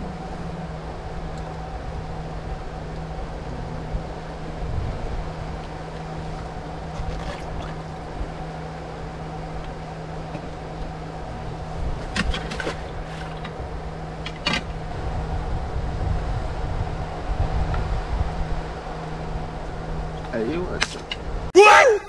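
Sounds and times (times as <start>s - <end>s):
mechanical hum: 0.0s - 20.2s
wind rumble on microphone: 0.0s - 20.3s.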